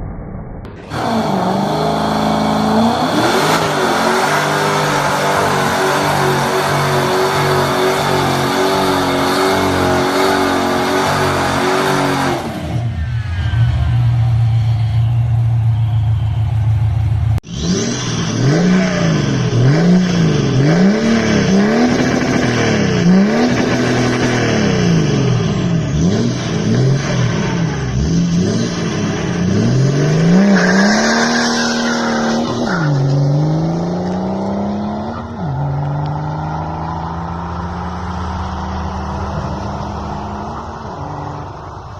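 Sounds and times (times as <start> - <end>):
sports car engine revving and accelerating: 0.9 - 12.8, 17.5 - 41.5.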